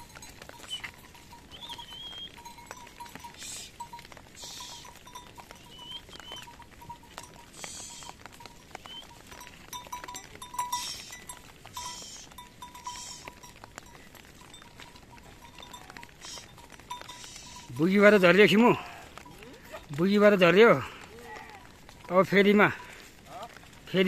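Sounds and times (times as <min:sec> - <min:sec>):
sheep and goats bleating: 0:00.0 - 0:24.0.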